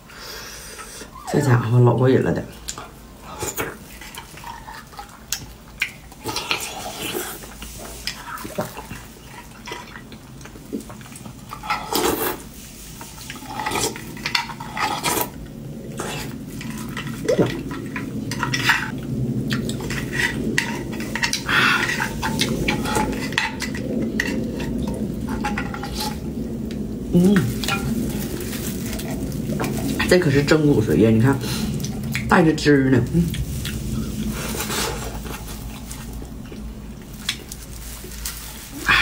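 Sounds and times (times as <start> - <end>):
close-up eating sounds: 0.0 - 39.0.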